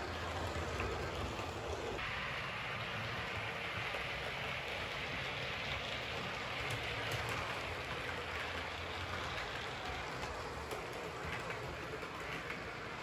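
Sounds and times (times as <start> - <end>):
model train rumbling on rails: 0.0 - 13.0.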